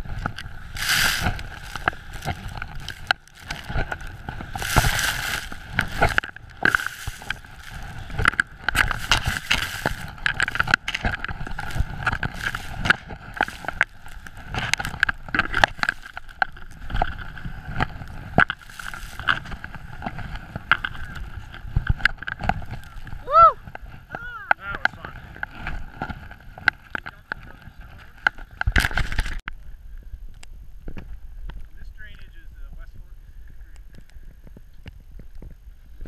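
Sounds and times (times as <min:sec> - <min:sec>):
skis rushing through snow: 0:00.0 - 0:29.4
thumps and scrapes on camera: 0:00.0 - 0:29.5.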